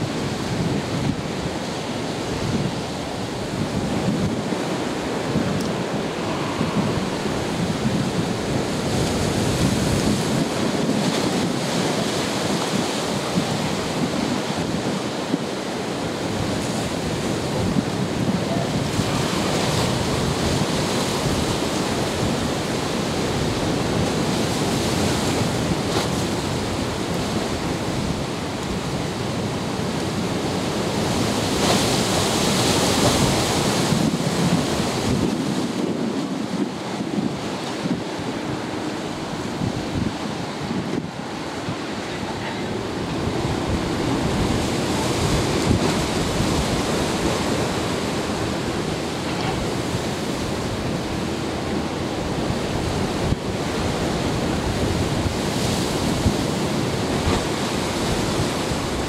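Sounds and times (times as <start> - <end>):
waves and surf: 0.0 - 59.0
wind buffeting microphone: 0.0 - 59.0.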